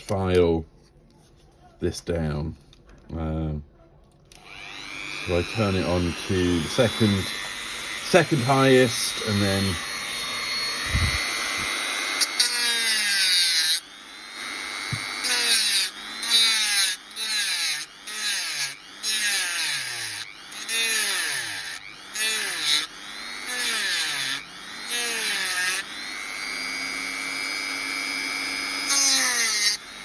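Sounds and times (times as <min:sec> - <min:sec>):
rotary tool sanding: 0:04.4 - 0:30.0.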